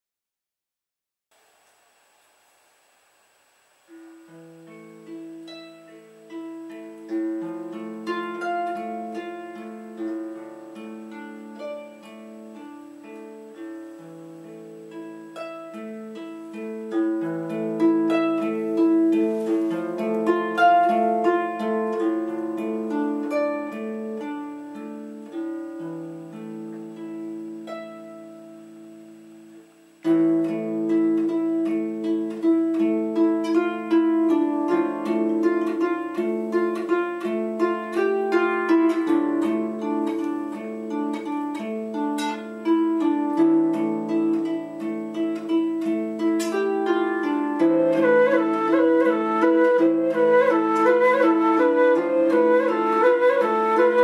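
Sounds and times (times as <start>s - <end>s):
harp plucked notes: 3.9s - 54.0s.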